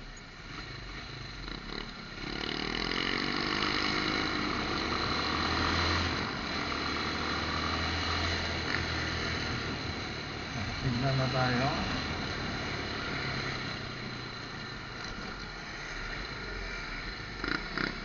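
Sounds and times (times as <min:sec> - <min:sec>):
road and wind noise: 0:00.0 - 0:18.0
motorcycle engine revving: 0:00.4 - 0:18.0.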